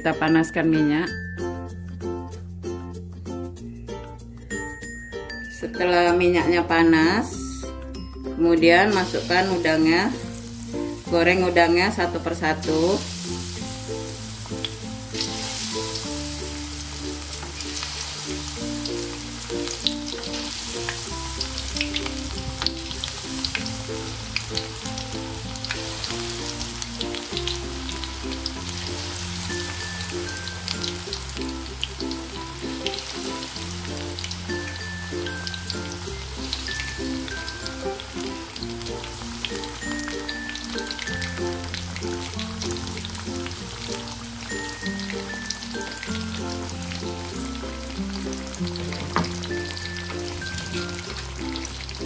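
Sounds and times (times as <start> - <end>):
background music with bass line: 0.6 - 52.0
shrimp deep-frying in oil: 8.8 - 52.0.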